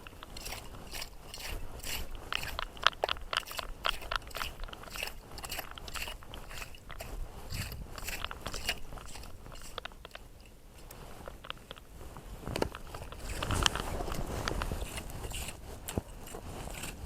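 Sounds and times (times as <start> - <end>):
digging scraping through wet sand: 0.0 - 11.6, 12.6 - 17.0.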